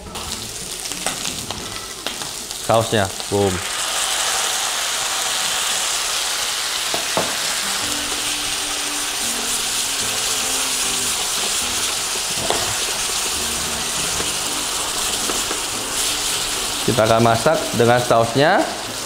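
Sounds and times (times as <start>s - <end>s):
prawns sizzling in a pan: 0.0s - 19.0s.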